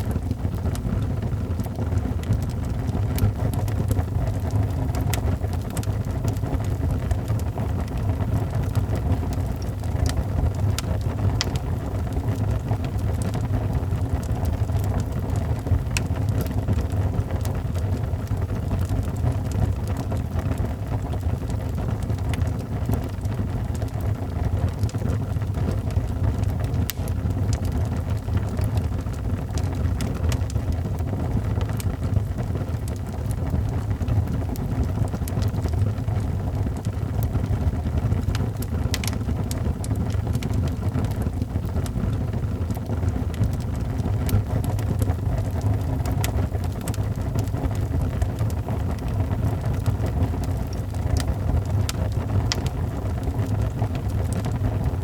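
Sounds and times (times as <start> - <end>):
fire rumbling: 0.0 - 55.0
wood fire crackling and popping: 0.0 - 55.0.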